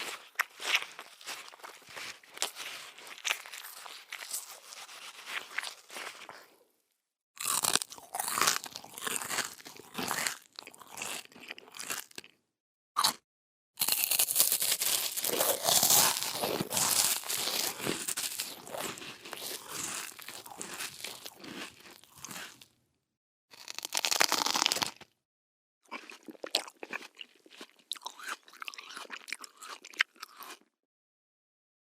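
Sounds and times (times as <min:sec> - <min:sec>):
crunchy biting: 0:00.0 - 0:06.6, 0:07.4 - 0:12.3, 0:13.8 - 0:22.7, 0:23.6 - 0:25.2, 0:25.9 - 0:30.7
crunchy chewing: 0:00.0 - 0:06.6, 0:07.4 - 0:12.4, 0:13.8 - 0:22.8, 0:23.6 - 0:25.2, 0:25.9 - 0:30.7.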